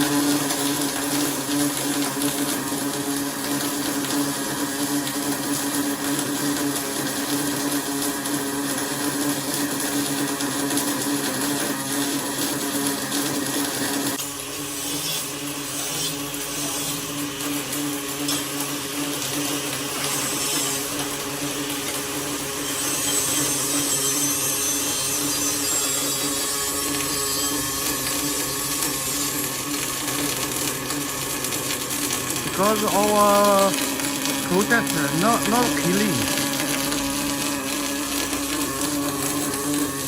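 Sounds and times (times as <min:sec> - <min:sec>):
welding hiss and crackle: 0:00.0 - 0:40.0
welding machine hum: 0:00.0 - 0:40.0.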